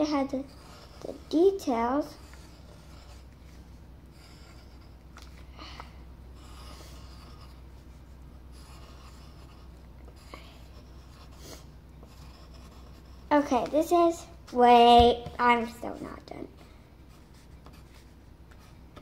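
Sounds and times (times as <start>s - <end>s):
pencil scratching on paper: 0.0s - 5.0s, 6.3s - 13.9s, 15.4s - 18.8s.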